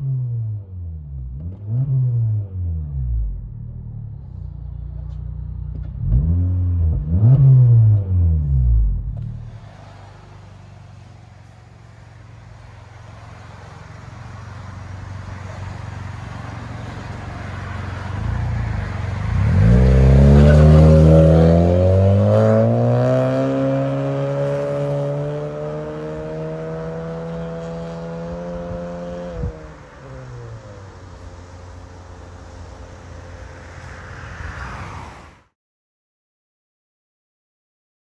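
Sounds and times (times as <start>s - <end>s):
car exhaust accelerating: 0.0s - 33.9s.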